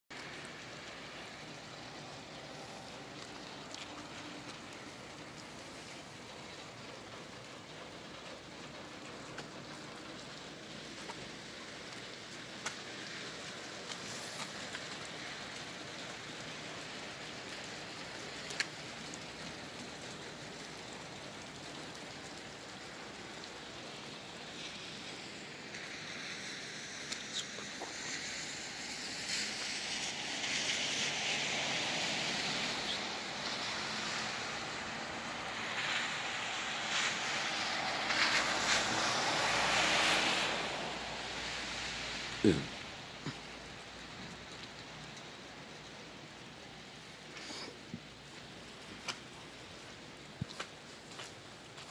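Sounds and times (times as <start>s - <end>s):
tyres hissing on wet road: 0.1s - 51.9s
wet snow and sleet falling: 0.1s - 51.9s.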